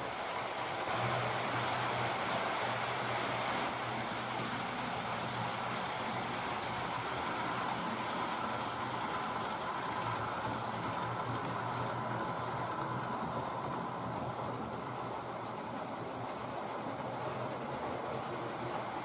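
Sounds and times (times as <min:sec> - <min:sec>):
model train wheels on rails: 0:00.0 - 0:19.0.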